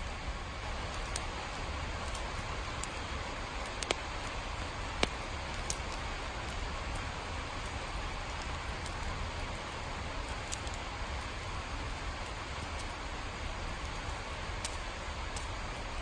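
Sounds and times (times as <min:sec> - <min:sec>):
sharp drip-like ticks: 0:00.0 - 0:16.0
steady rain: 0:00.0 - 0:16.0.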